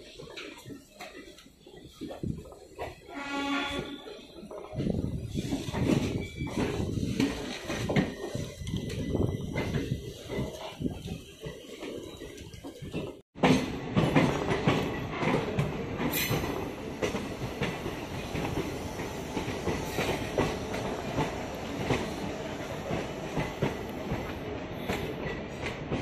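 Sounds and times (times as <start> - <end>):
train wheels clattering over rails: 0.0 - 26.0.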